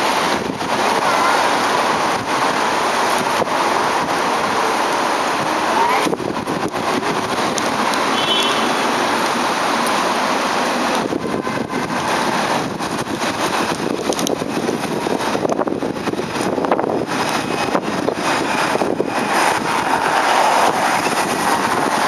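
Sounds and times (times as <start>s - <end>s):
tram approaching on wet rails: 0.0s - 22.0s
wet street noise: 0.0s - 22.0s
wind on microphone: 0.0s - 22.0s.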